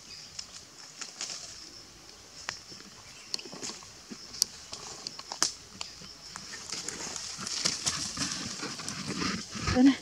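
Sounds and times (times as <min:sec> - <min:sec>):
steady high-pitched hiss: 0:00.0 - 0:10.0
clicks and rustles in dry leaves: 0:00.3 - 0:01.7, 0:02.4 - 0:10.0.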